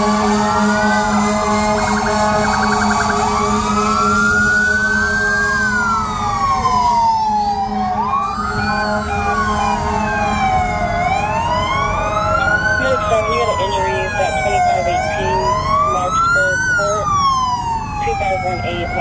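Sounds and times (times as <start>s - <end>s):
sirens wailing: 0.0s - 19.0s.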